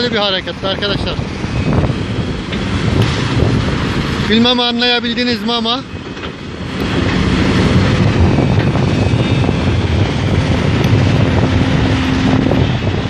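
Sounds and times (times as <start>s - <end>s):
excavator diesel engine: 0.0s - 13.0s
steady hum: 0.0s - 13.0s.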